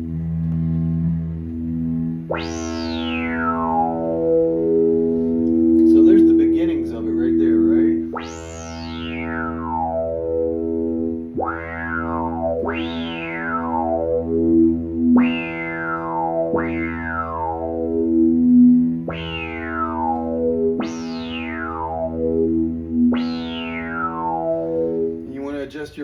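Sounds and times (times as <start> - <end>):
synthesizer low note with filter sweep: 0.0 - 25.6.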